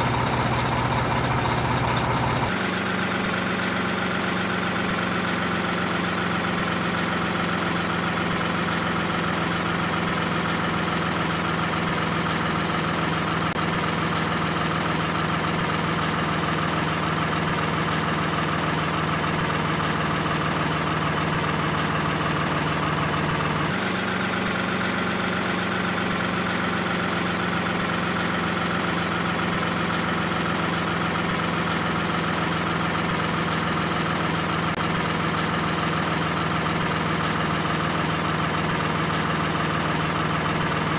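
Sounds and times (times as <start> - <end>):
engine-like idling drone: 0.0 - 40.9.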